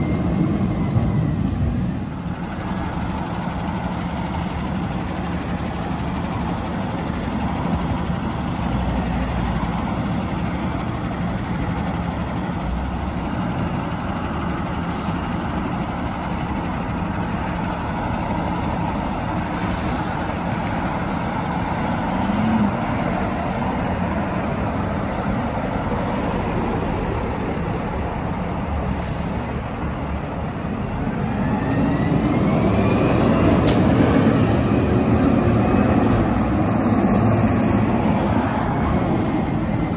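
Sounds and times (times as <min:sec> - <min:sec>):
diesel truck engine: 0:00.0 - 0:39.9.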